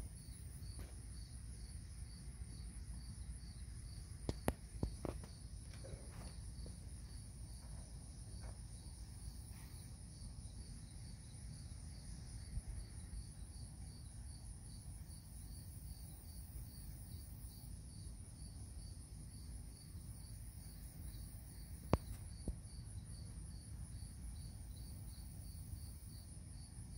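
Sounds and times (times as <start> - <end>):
high-pitched insect trill: 0.0 - 26.9.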